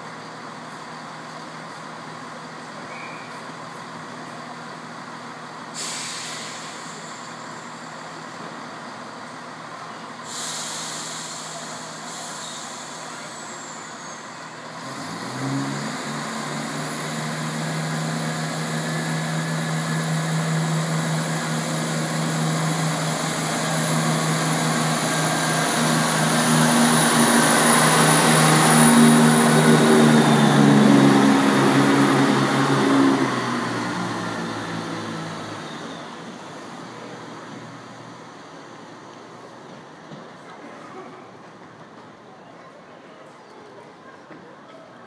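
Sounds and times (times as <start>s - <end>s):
diesel train engines accelerating: 0.0s - 45.0s.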